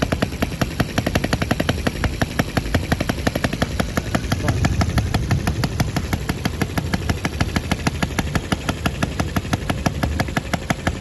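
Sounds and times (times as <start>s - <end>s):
model engine running: 0.0s - 11.0s.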